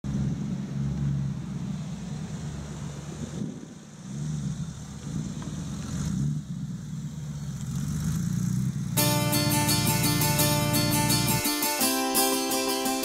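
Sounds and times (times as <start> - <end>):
car engine driving past: 0.0 - 11.4.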